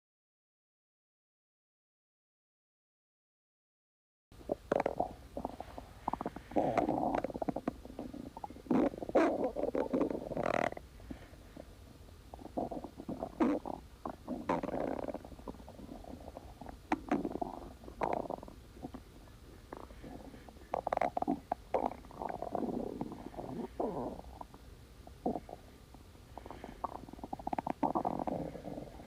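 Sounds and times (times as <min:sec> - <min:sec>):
stomach growling: 0:04.4 - 0:29.0.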